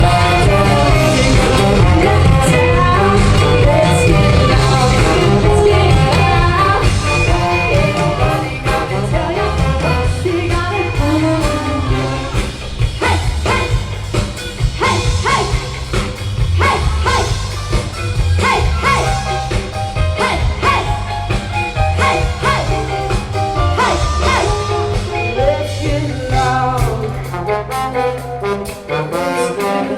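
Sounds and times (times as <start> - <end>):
person singing: 0.0 - 13.8, 18.4 - 29.9
big band playing: 0.0 - 29.9.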